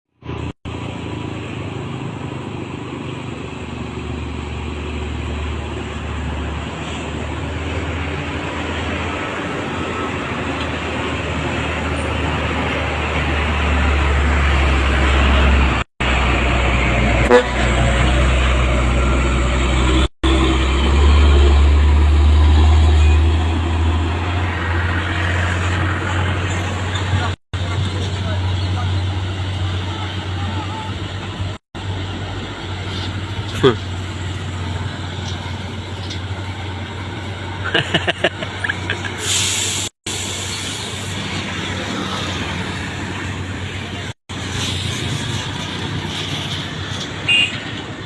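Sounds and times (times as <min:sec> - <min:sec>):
truck diesel engine drone: 0:00.1 - 0:48.0.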